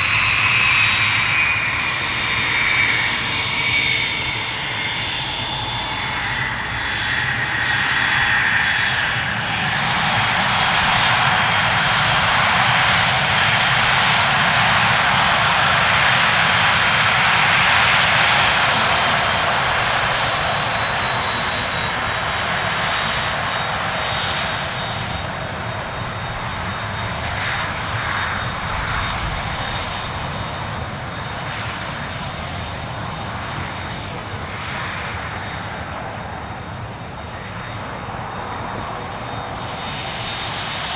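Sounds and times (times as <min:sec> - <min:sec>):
aircraft engines passing: 0:00.0 - 0:40.9.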